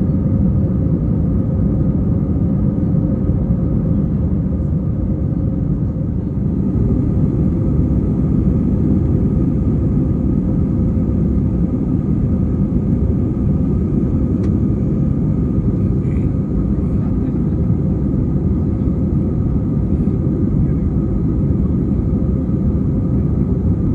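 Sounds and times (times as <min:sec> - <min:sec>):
airplane cabin engine rumble: 0:00.0 - 0:23.9.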